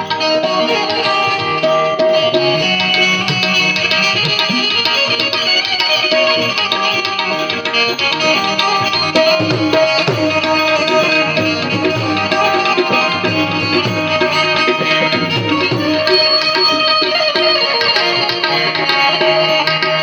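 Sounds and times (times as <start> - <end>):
plucked banjo melody: 0.0 - 20.0
tabla rhythm: 0.0 - 20.0.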